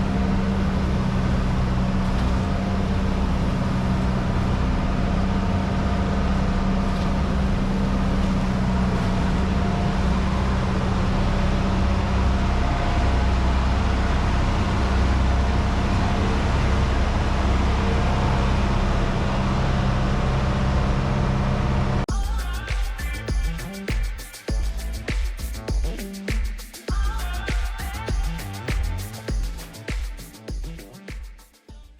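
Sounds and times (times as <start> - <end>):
boat engine running: 0.0 - 26.2.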